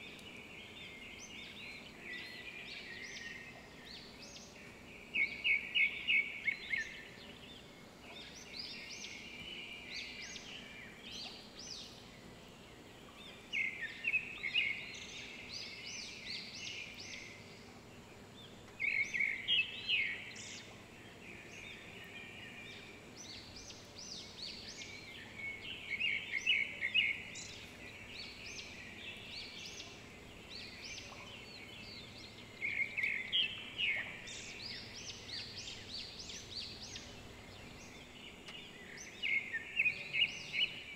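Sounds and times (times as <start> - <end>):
bird chirping: 0.0 - 40.9
faint steady hiss: 0.0 - 40.9.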